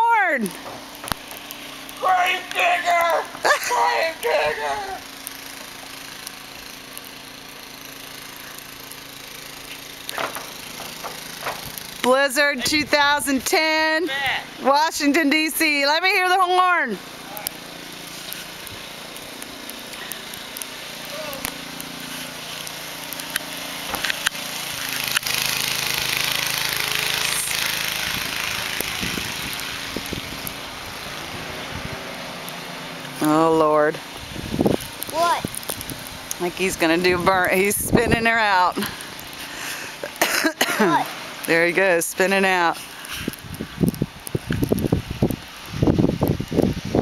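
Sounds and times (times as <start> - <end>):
car engine running: 0.4 - 13.1, 15.9 - 41.5.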